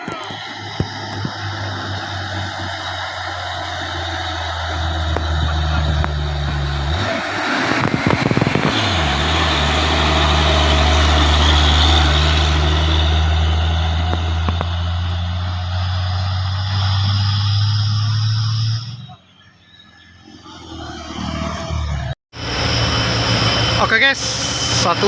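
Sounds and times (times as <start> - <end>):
diesel truck engine labouring: 0.0 - 25.0.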